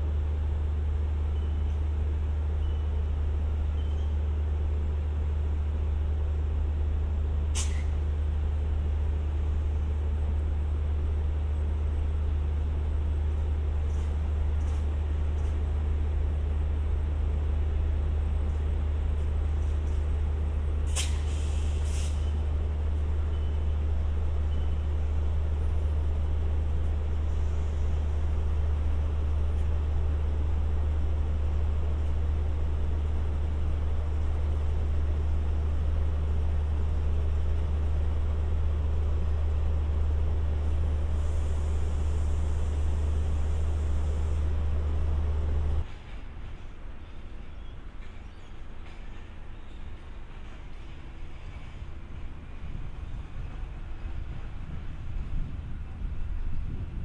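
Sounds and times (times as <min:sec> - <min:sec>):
diesel train engine droning: 0:00.0 - 0:57.0.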